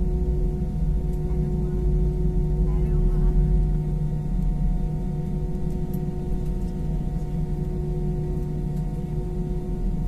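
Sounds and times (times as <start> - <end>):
jet engines droning in cabin: 0.0 - 10.0.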